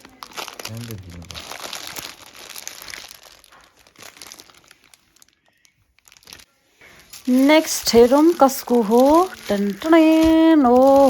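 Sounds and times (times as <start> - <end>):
wrapping paper crinkling and rustling: 0.0 - 11.0.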